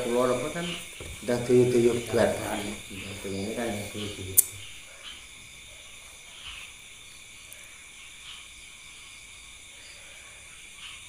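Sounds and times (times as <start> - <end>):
faint soft noises: 0.0 - 11.0
night insects chirring: 0.0 - 11.0.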